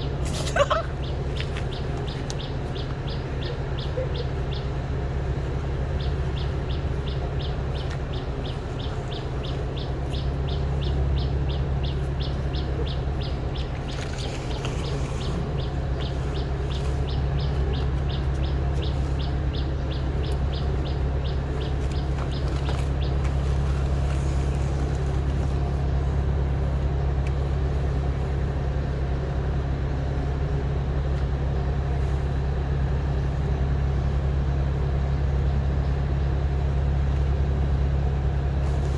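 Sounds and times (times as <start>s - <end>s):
low engine-like hum: 0.0s - 38.9s.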